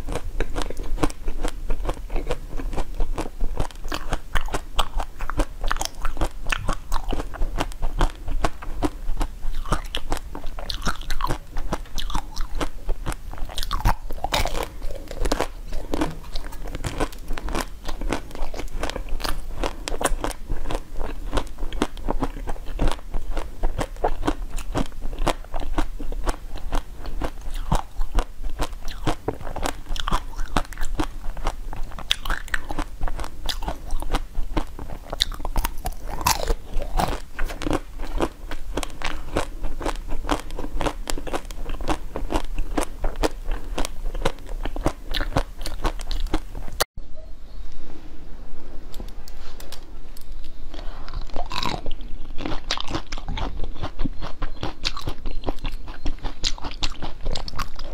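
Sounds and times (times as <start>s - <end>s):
crisp crunching and chewing: 0.0s - 46.8s, 50.3s - 57.9s.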